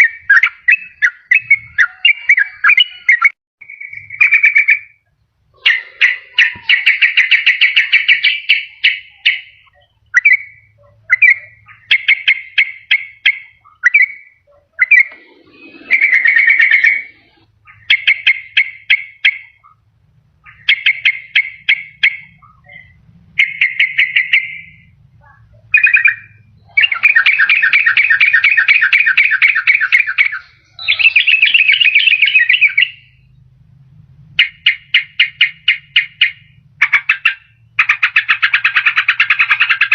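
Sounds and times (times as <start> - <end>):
bird chattering song: 0.0 - 33.5, 34.4 - 39.9.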